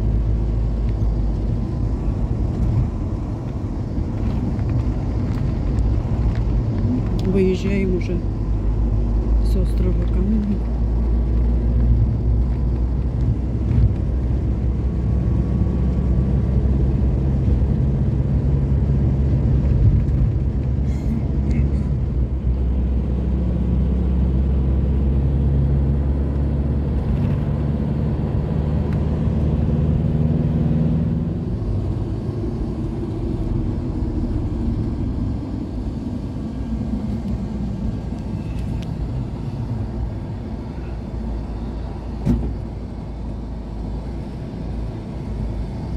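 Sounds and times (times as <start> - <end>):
engine and road noise in cabin: 0.0 - 45.9.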